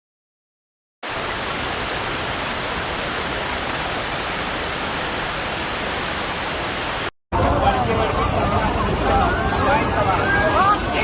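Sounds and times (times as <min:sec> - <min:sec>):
steady rushing noise: 0:01.0 - 0:11.0.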